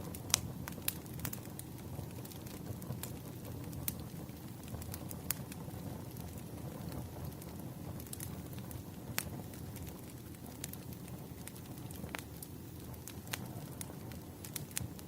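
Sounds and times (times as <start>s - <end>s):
fire popping and snapping: 0.0s - 15.0s
flames burning: 0.0s - 15.0s.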